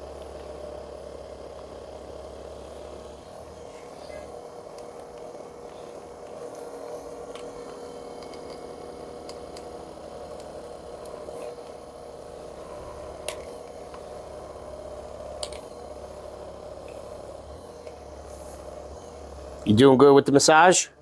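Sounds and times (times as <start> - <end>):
electric massager motor hum: 0.0 - 21.0.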